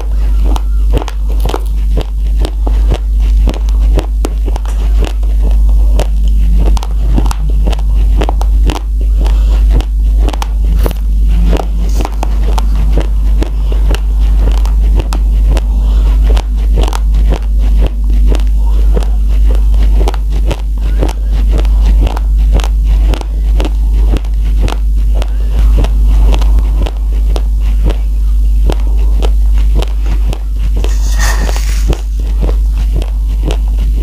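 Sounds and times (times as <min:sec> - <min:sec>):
steady deep hum: 0:00.0 - 0:34.0.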